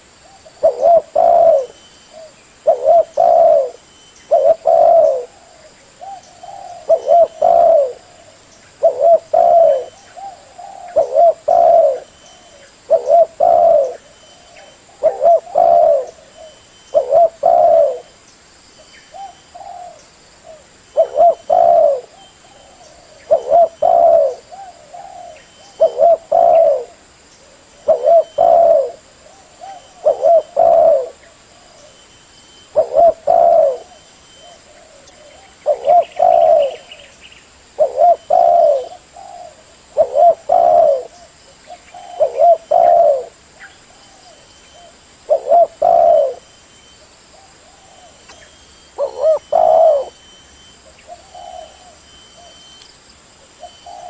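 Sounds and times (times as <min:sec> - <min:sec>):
dove cooing: 0:00.0 - 0:18.2, 0:19.1 - 0:37.1, 0:37.7 - 0:52.8, 0:53.5 - 0:54.0.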